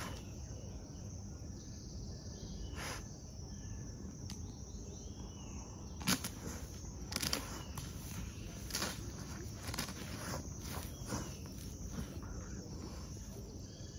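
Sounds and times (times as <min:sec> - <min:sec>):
distant bird chirps: 0:00.0 - 0:13.9.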